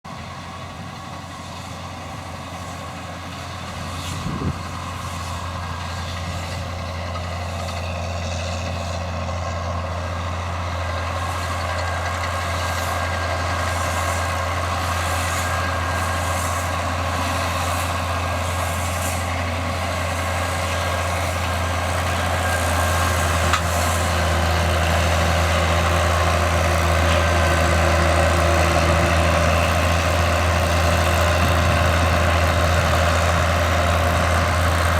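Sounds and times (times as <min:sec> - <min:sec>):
tractor diesel engine drone: 0:00.0 - 0:34.9.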